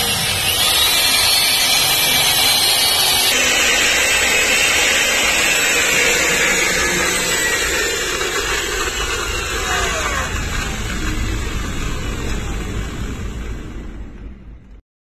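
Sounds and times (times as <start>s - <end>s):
electric drill boring into steel: 0.0s - 13.2s.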